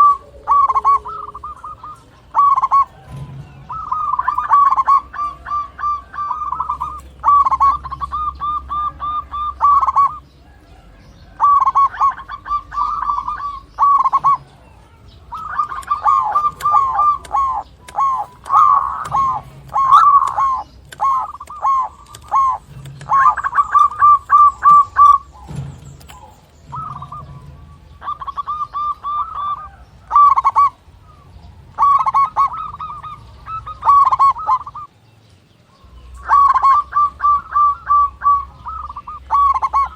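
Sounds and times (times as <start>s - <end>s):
dove cooing: 0.0s - 35.0s, 35.7s - 39.9s.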